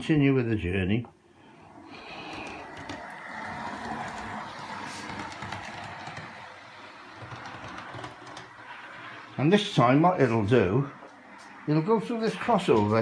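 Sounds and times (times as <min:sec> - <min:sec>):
model locomotive running on track: 0:01.9 - 0:13.0.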